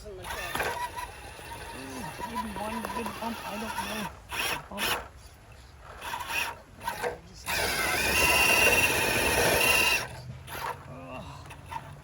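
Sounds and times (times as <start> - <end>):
electric motor whining: 0.2 - 5.1, 6.0 - 12.0.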